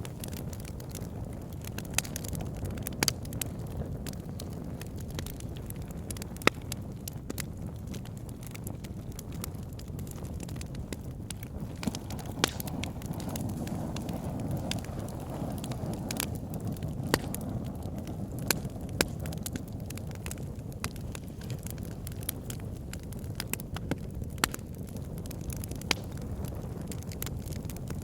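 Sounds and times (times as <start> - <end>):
burning logs popping and crackling: 0.0 - 28.0
low rumble of flames: 0.0 - 28.0.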